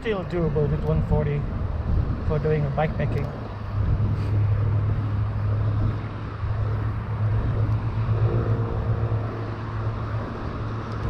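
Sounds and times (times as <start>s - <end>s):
traffic rumble: 0.0s - 11.0s
vehicle engine hum: 0.0s - 11.0s
wind: 0.0s - 11.0s.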